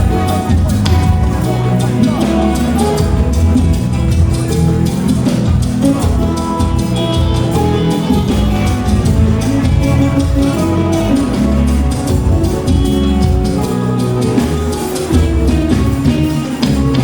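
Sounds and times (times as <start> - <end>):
church band music: 0.0 - 17.0
heavy bass line: 0.0 - 17.0.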